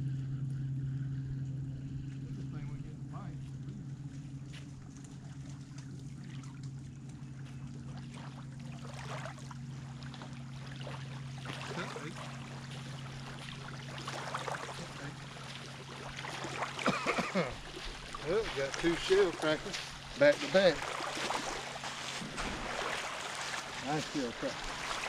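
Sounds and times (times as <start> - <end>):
steady low hum: 0.0 - 25.0
water noise: 0.0 - 25.0.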